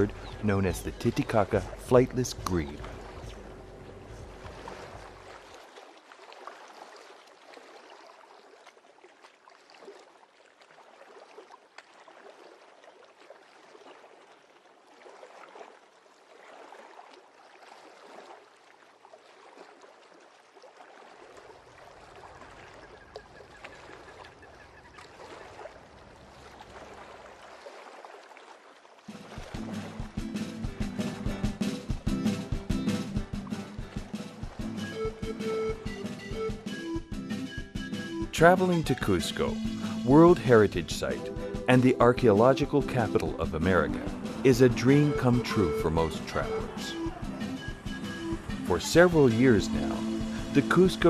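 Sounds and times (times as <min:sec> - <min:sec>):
waterbirds calling: 0:00.0 - 0:15.4, 0:20.7 - 0:51.0.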